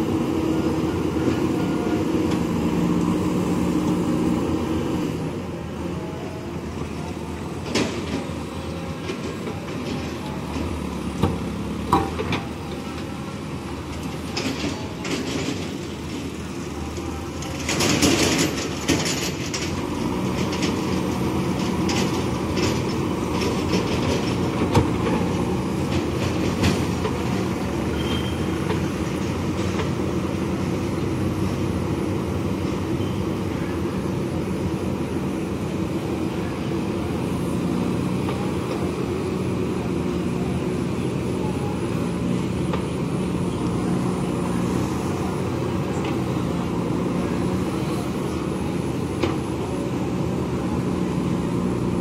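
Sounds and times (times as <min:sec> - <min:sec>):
diesel engine under load: 0:00.0 - 0:52.0.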